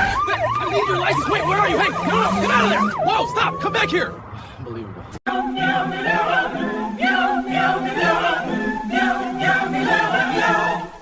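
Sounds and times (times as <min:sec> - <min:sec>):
voices singing without instruments: 0:00.7 - 0:03.9, 0:05.3 - 0:11.0.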